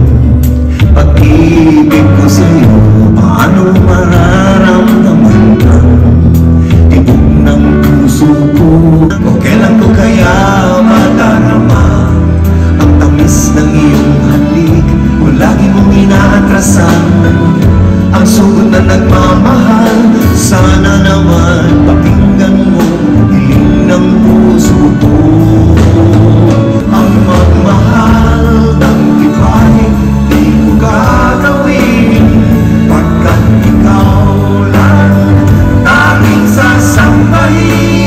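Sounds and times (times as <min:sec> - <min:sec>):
band accompaniment: 0:00.0 - 0:38.0
men singing into microphones: 0:00.0 - 0:38.0.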